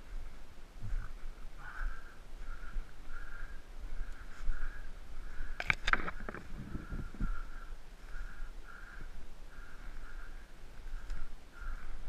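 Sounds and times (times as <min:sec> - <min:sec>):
bird hoarse calls: 0:00.9 - 0:12.0.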